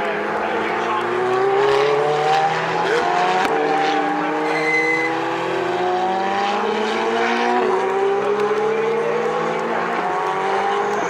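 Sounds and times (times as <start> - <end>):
race car engines accelerating past: 0.0 - 11.0.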